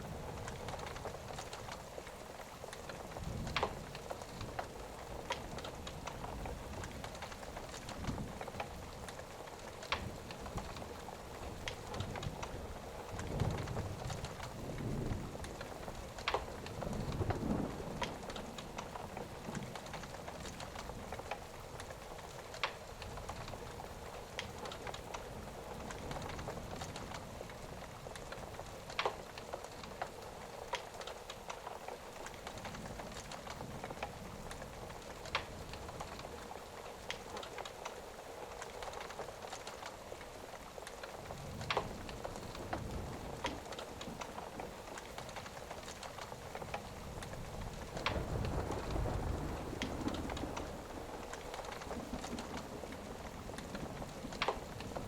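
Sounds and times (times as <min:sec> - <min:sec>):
low rumble of thunder: 0:00.0 - 0:31.1, 0:41.0 - 0:55.0
crackling fire pops: 0:00.0 - 0:55.0
steady rain: 0:00.0 - 0:55.0.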